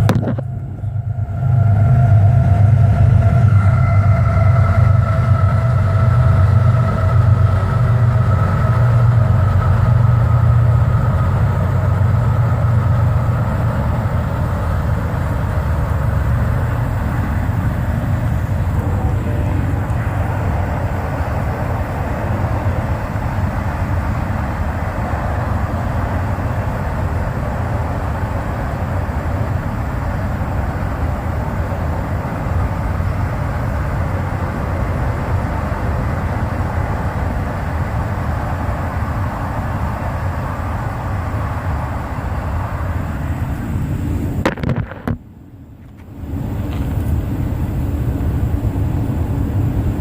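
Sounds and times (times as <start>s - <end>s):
freight train passing: 0.0s - 50.0s.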